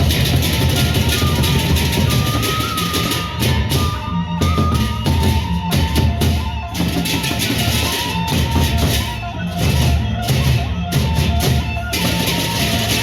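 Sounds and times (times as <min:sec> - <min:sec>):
barrel drums beating: 0:00.0 - 0:13.0.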